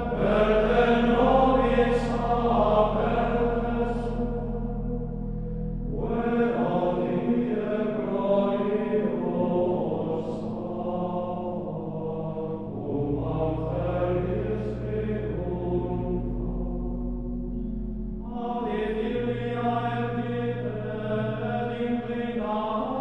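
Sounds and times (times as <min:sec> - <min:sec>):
steady low drone: 0:00.0 - 0:23.0
voices chanting long held notes: 0:00.0 - 0:23.0.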